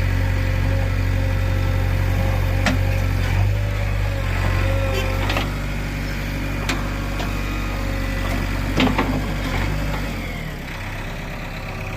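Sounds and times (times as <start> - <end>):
diesel engine running at low revs: 0.0 - 11.9.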